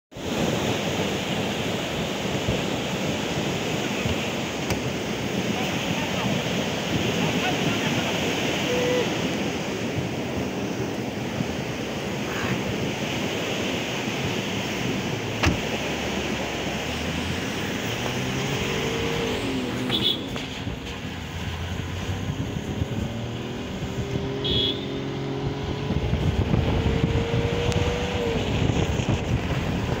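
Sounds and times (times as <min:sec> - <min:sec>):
engine hum: 0:00.1 - 0:30.0
tyre and road noise: 0:00.1 - 0:30.0.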